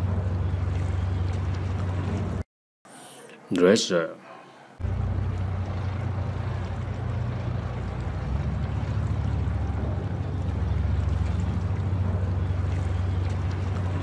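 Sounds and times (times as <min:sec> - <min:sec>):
engines humming: 0:00.0 - 0:02.4, 0:04.7 - 0:14.0.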